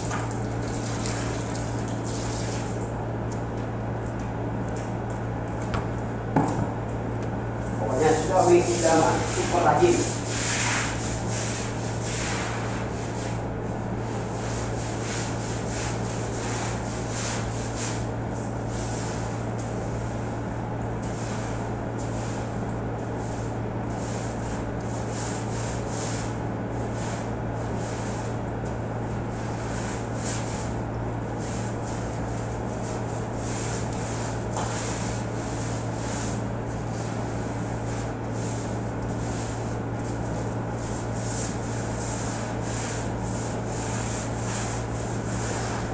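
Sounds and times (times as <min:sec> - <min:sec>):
brush scrubbing tiled floor: 0:00.0 - 0:02.9, 0:07.6 - 0:45.9.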